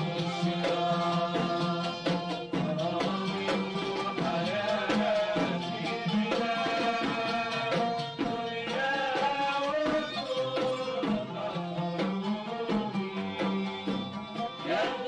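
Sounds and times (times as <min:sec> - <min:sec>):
hand drum beat: 0:00.0 - 0:15.0
oud playing ornamented melody: 0:00.0 - 0:15.0.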